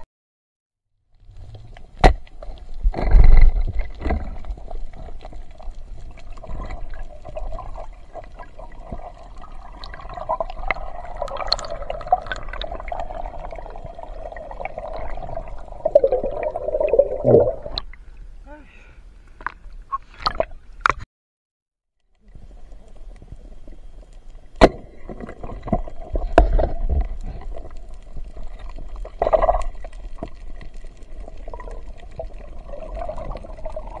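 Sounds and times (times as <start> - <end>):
underwater gurgling and bubbling: 1.2 - 18.0, 22.2 - 34.0.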